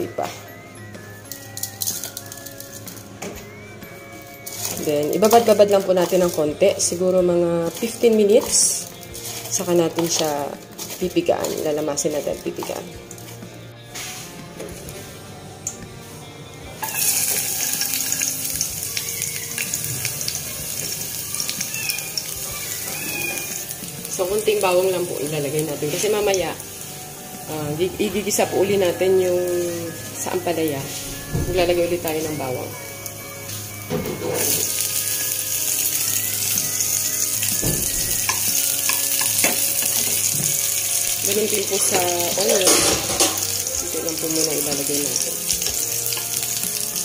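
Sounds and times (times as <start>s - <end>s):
garlic sizzling in hot oil: 1.3s - 3.1s, 4.4s - 13.4s, 16.8s - 47.0s.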